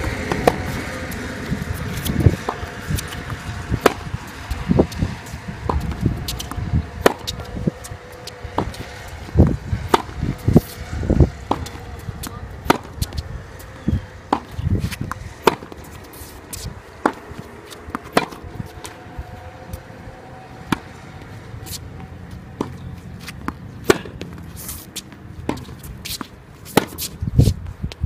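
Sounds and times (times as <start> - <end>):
tennis balls hit with rackets: 0.0 - 28.0.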